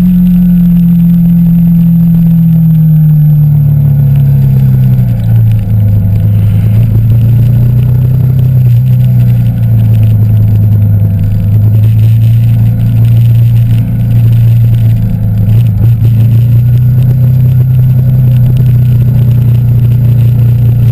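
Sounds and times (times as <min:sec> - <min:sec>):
motorcycle engine cruising: 0:00.0 - 0:20.9.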